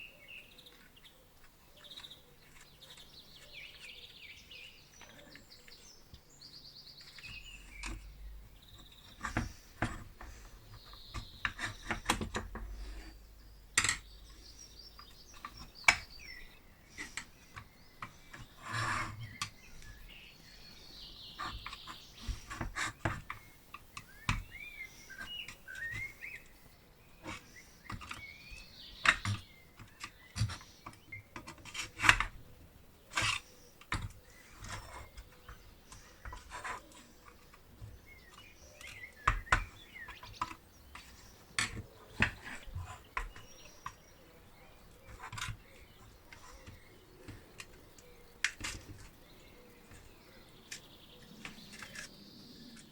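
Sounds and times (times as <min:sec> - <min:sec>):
birds chirping: 0:00.0 - 0:52.9.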